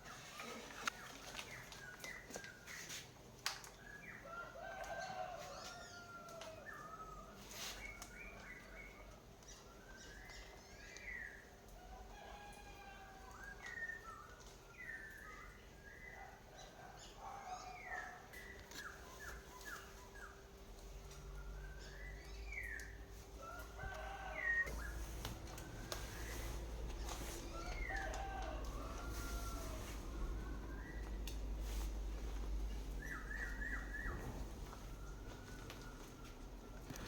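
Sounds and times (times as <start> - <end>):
faint birds chirping: 0.0 - 37.0.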